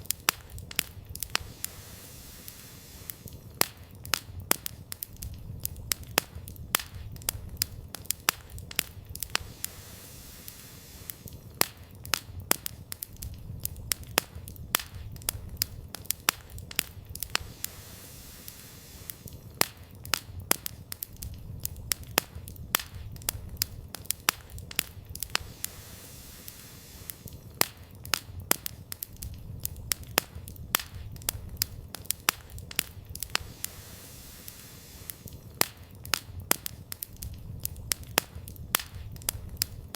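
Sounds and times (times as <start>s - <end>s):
campfire crackling: 0.0s - 39.9s
low rumble of burning: 0.0s - 39.9s.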